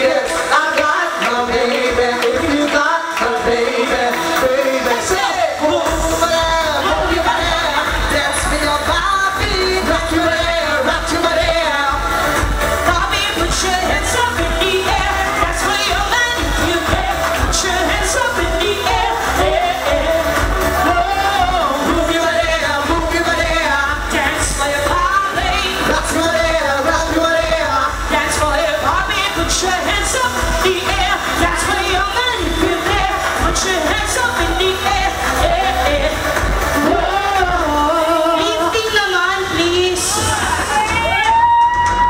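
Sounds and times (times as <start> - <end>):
amplified pop music with bass beat: 0.0 - 42.0
woman singing into a microphone: 0.0 - 42.0.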